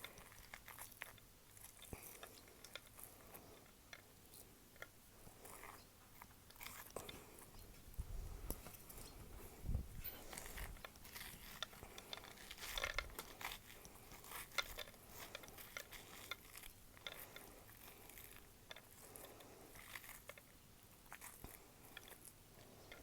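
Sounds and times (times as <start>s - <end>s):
scraping zucchini seeds and pulp: 0.0s - 23.0s.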